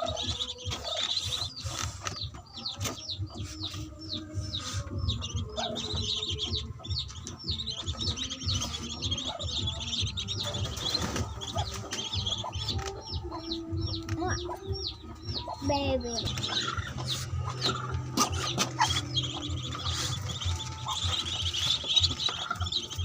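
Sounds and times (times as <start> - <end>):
ducklings peeping: 0.0 - 23.0.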